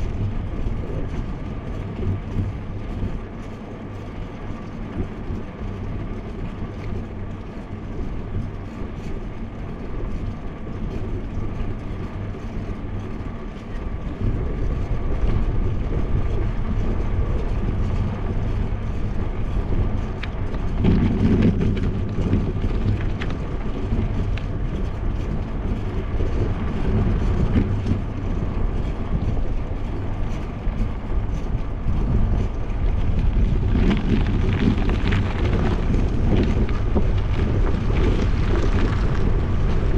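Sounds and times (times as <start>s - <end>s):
bicycle tyres rumbling on asphalt: 0.0s - 39.9s
wind rushing over microphone: 0.0s - 39.9s.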